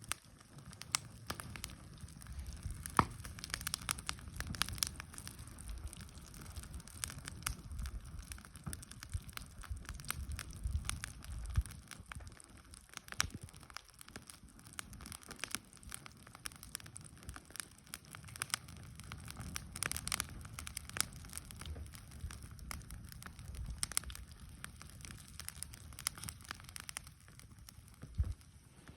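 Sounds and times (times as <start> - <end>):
bonfire crackling and popping: 0.0 - 28.9
low rumble of flames: 0.0 - 28.9.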